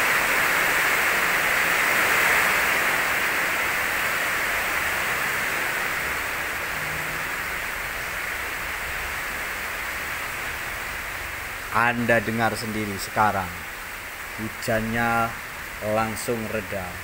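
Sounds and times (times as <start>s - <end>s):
heavy rain on metal roof: 0.0s - 17.0s.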